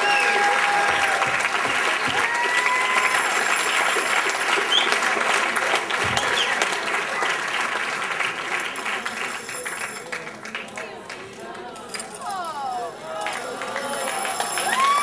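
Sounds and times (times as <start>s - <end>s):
audience applauding: 0.0s - 11.7s, 12.9s - 15.0s.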